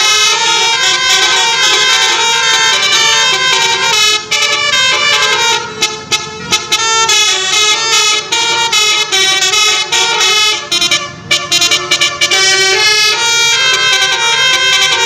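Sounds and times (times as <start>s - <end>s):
musical air horn melody: 0.0s - 15.0s.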